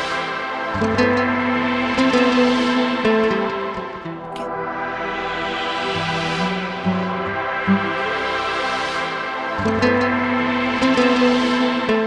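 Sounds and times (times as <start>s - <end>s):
electronic music with synthesizer: 0.0s - 12.0s.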